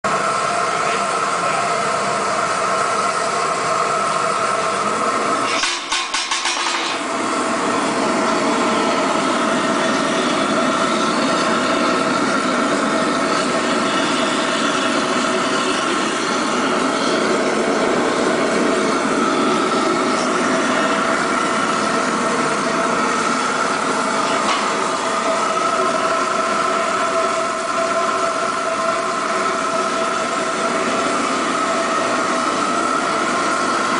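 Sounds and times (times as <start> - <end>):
oil burner heater running: 0.0 - 33.9
air compressor hum: 0.1 - 33.9.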